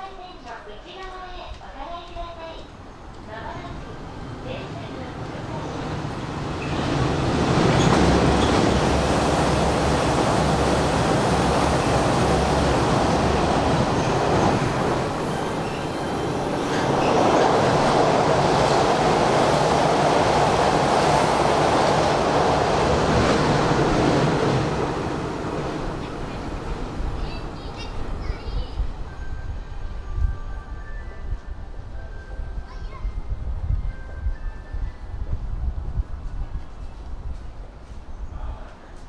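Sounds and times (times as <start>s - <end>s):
train wheel and rail noise: 0.0s - 39.0s.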